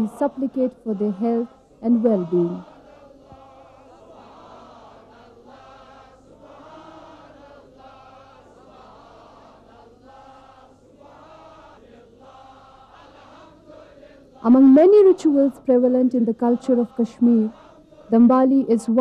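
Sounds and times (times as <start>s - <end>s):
group of voices chanting: 0.0s - 19.0s.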